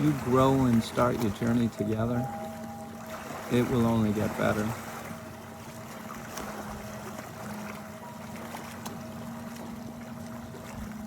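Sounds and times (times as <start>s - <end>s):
low hum: 0.0s - 11.0s
sea water rushing: 0.0s - 11.0s.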